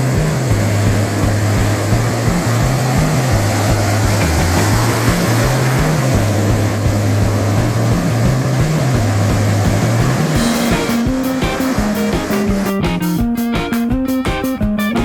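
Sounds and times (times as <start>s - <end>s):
background music with bass line: 0.0s - 15.0s.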